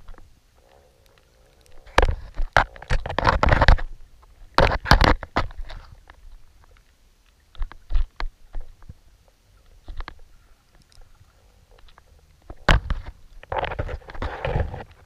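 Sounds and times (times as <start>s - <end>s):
low rumble of water: 0.0s - 15.0s
underwater clicks and knocks: 1.7s - 6.9s, 7.5s - 9.0s, 9.6s - 15.0s.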